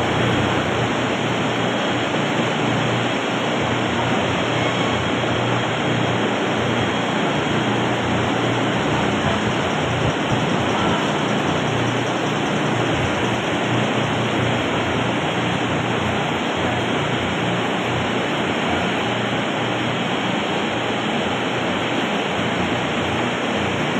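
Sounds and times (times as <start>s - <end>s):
low machinery hum: 0.0s - 23.9s.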